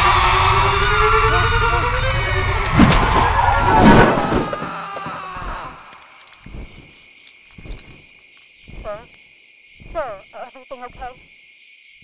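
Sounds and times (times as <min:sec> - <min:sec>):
crickets chirring: 0:00.4 - 0:12.0.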